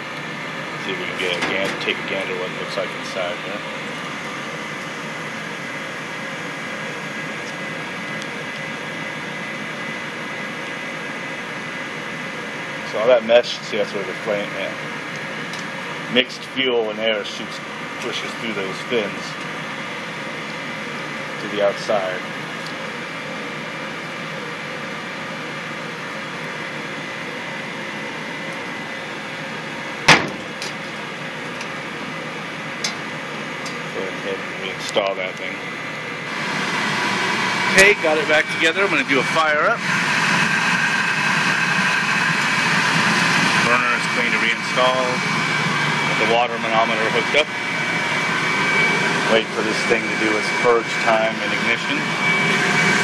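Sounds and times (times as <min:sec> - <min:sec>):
faint hum tones: 0:00.0 - 0:53.0.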